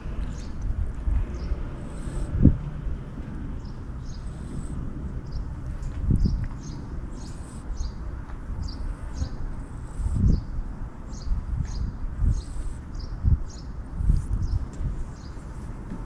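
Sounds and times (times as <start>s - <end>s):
gusty low rumble: 0.0s - 16.0s.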